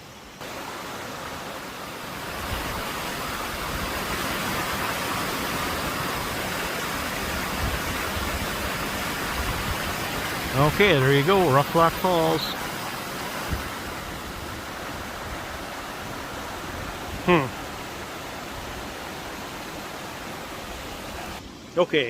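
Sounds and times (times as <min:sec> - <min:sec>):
waterfall and rapids rushing: 0:00.0 - 0:22.0.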